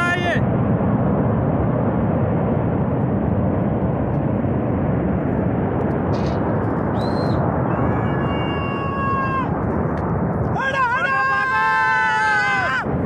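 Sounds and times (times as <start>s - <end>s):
flash flood rumbling: 0.0s - 13.0s.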